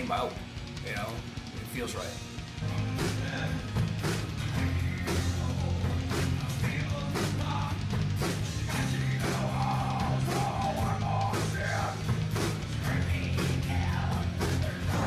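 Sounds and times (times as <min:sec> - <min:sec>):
bass guitar notes: 0:00.0 - 0:15.0.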